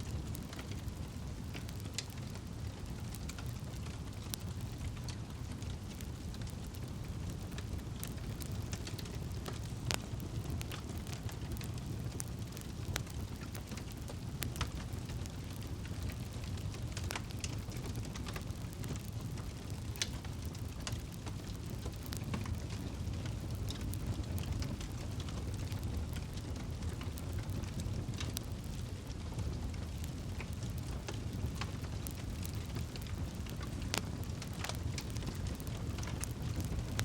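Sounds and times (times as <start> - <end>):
wood crackling and popping: 0.0 - 37.0
fire rushing: 0.1 - 37.0.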